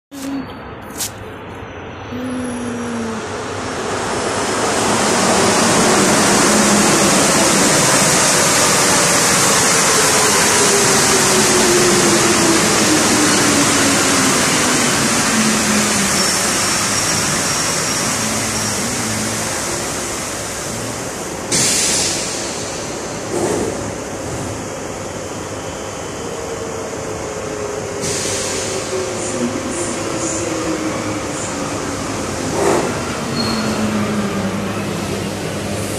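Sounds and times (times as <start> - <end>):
train braking with rushing hiss: 3.9 - 26.2, 27.7 - 35.9.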